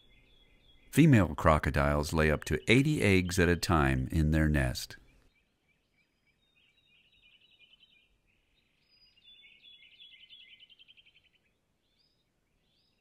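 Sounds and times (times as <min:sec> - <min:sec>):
bird chirping trills: 0:00.0 - 0:13.0.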